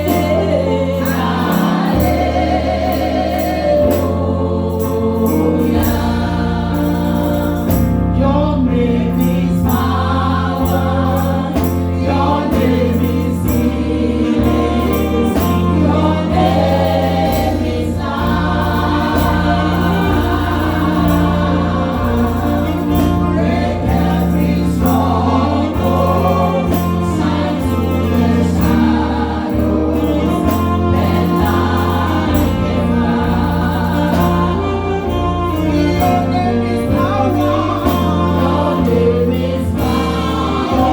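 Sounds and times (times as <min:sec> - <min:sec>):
band playing: 0:00.0 - 0:40.9
bass line: 0:00.0 - 0:40.9
gospel choir singing: 0:00.0 - 0:40.9.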